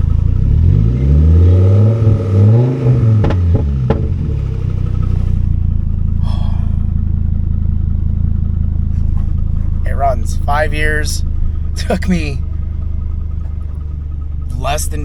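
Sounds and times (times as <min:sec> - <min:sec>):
engine revving and idling: 0:00.0 - 0:15.0.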